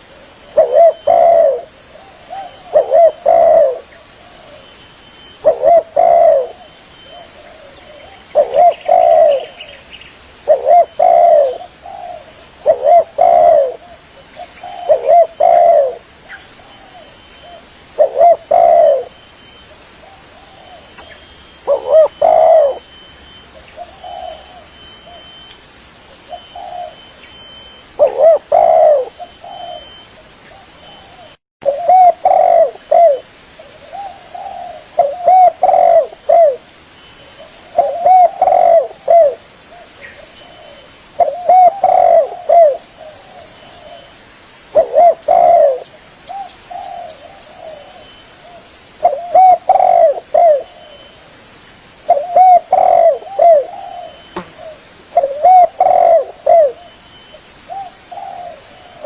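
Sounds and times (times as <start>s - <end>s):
dove cooing: 0.0s - 25.4s, 26.2s - 36.7s, 37.3s - 44.1s, 44.7s - 51.1s, 52.0s - 59.0s.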